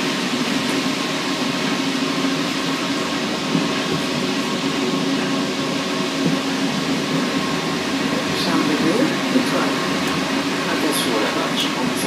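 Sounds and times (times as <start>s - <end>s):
train rumble in tunnel: 0.0s - 12.0s.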